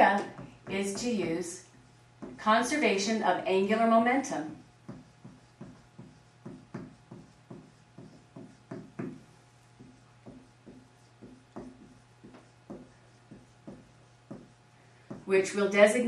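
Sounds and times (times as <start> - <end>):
marker writing on whiteboard: 0.0 - 3.2, 3.8 - 15.6.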